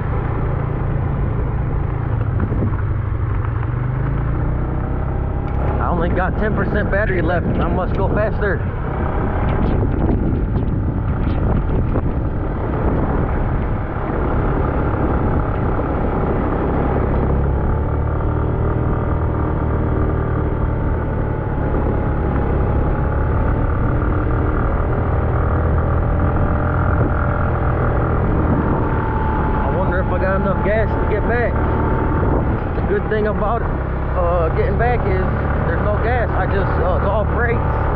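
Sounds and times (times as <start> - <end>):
motorcycle engine under load: 0.0 - 37.9.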